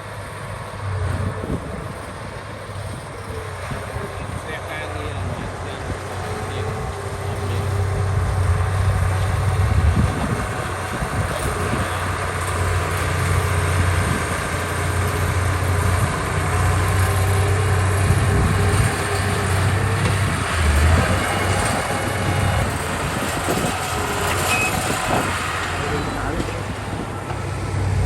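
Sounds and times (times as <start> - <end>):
diesel engine running steadily: 0.0 - 28.0.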